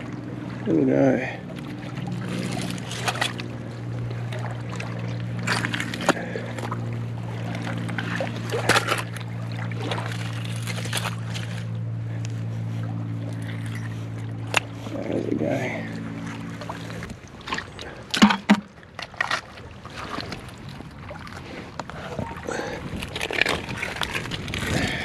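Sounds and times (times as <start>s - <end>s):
steady low drone: 0.0s - 25.0s.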